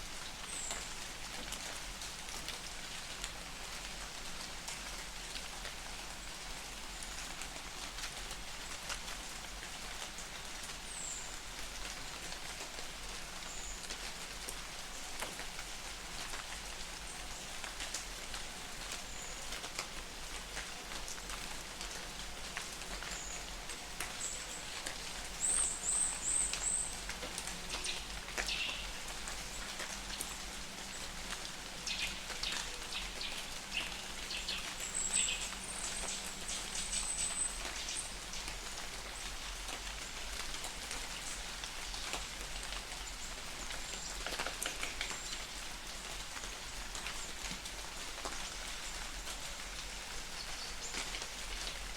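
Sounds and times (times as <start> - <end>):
light rain in a forest: 0.0 - 51.9.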